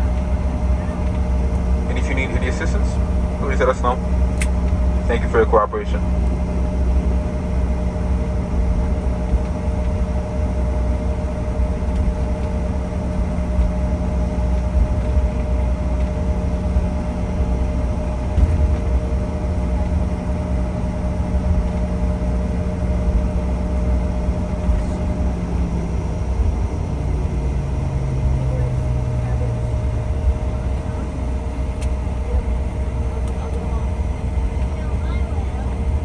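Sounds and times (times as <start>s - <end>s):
constant cabin hum: 0.0s - 36.0s
jet engines idling rumble: 0.0s - 36.0s.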